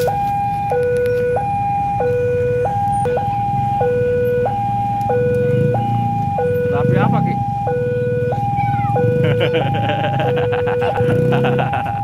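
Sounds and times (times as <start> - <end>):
level crossing two-tone alarm: 0.0 - 12.0.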